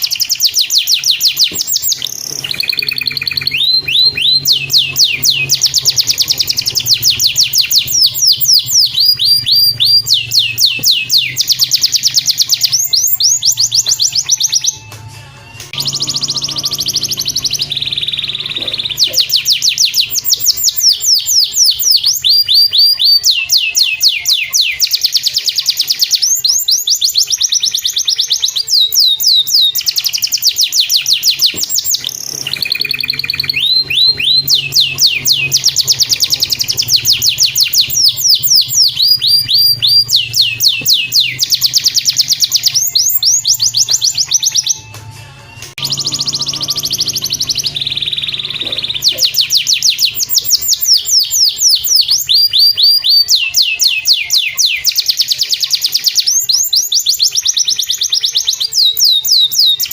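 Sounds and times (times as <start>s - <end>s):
canary singing trills: 0.0s - 59.9s
low background music: 0.2s - 58.8s.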